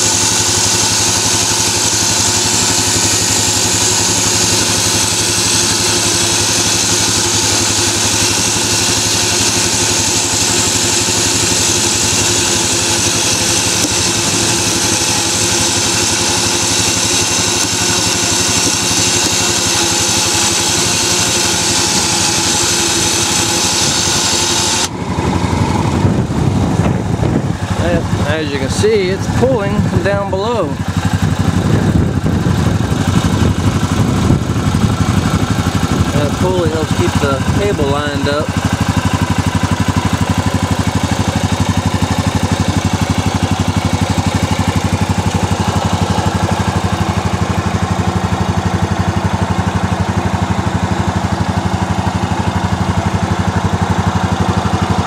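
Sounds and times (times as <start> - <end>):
electric winch spooling cable: 0.0 - 55.0
engine idling: 0.0 - 55.0.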